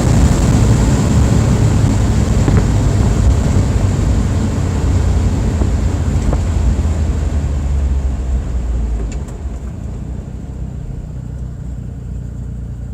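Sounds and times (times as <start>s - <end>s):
truck engine droning: 0.0s - 12.9s.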